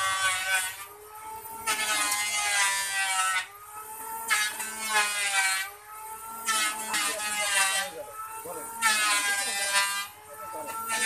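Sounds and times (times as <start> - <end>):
wood lathe squealing whine: 0.0 - 11.0.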